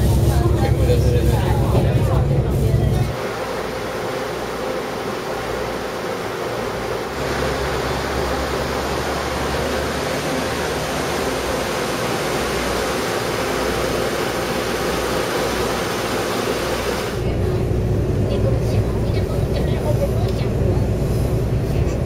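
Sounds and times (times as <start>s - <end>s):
train rushing and rumbling: 0.0s - 22.0s.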